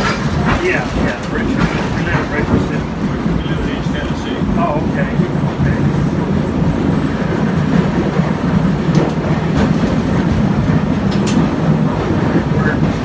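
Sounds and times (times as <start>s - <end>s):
trolley wheels rumbling: 0.0s - 13.0s.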